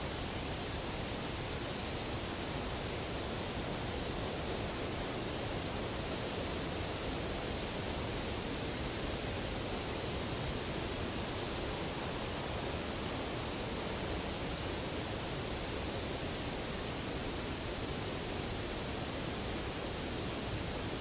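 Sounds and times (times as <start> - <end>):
recording noise hiss: 0.0 - 21.0.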